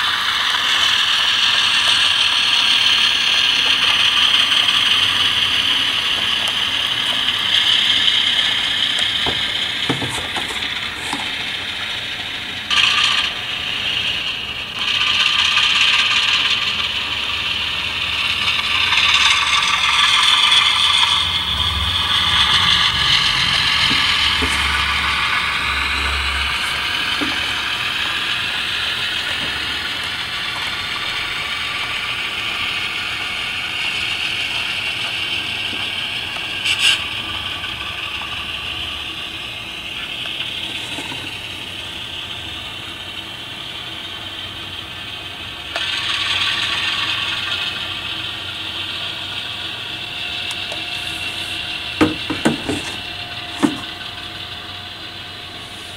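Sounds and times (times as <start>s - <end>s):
model train motor whine: 0.0s - 55.9s
wheels on rails: 0.0s - 55.9s.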